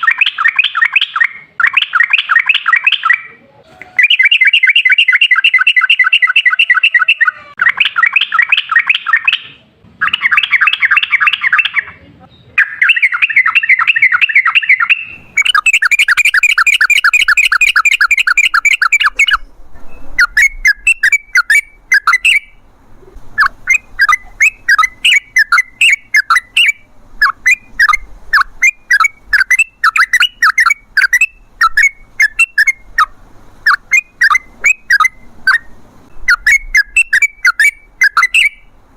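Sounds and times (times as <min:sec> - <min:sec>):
bulbul singing trills and chirps: 0:04.0 - 0:33.1, 0:33.7 - 0:38.7.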